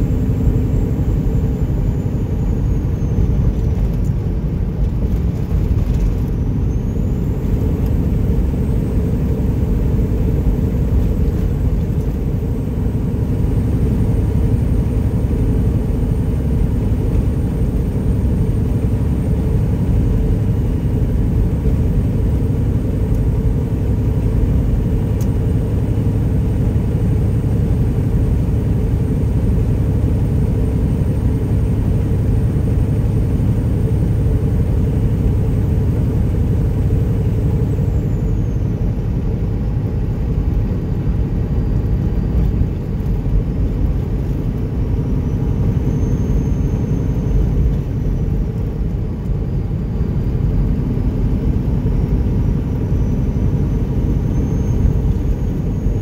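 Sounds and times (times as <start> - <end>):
road noise: 0.0 - 56.0
truck engine rumbling: 0.0 - 56.0.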